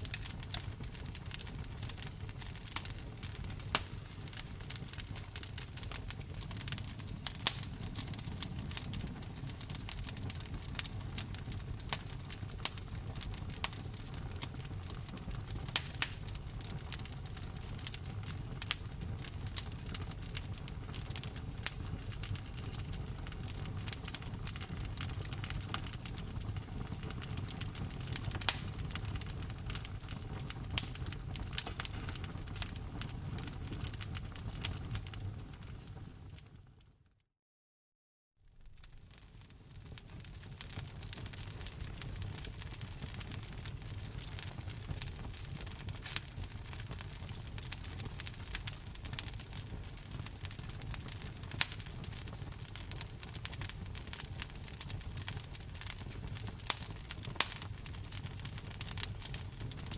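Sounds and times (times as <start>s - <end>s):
low fire rumble: 0.0s - 36.7s, 38.5s - 59.9s
wood fire popping and crackling: 0.0s - 36.8s, 38.5s - 59.9s.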